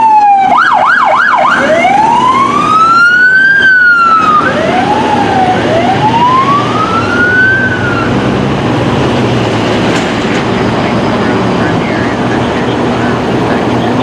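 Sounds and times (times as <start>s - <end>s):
emergency siren wailing: 0.0s - 14.0s
traffic road and engine noise: 0.0s - 14.0s.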